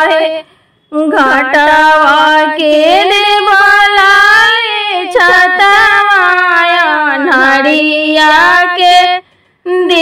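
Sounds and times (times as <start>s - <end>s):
woman singing folk song: 1.0s - 10.0s.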